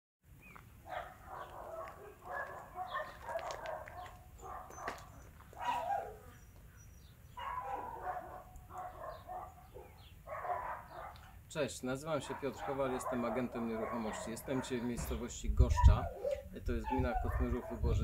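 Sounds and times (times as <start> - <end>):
dog barking: 0.9 - 6.4, 7.4 - 11.4, 12.2 - 15.1, 15.8 - 18.0.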